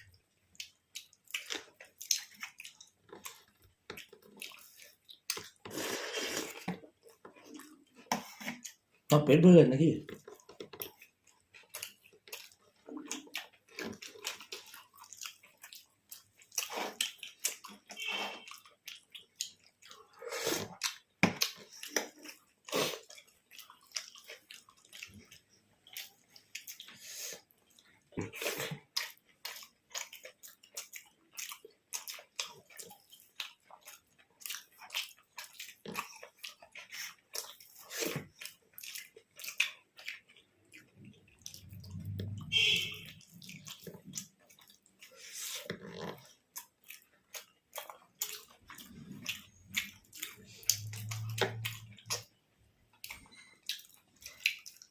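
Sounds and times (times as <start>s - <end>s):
people chewing and smacking lips: 0.0s - 9.2s, 10.0s - 54.9s.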